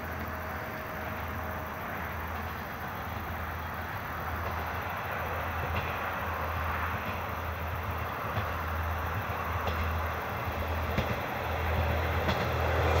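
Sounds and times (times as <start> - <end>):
diesel railcar engine drone: 0.0 - 13.0
wheel and rail noise: 0.0 - 13.0.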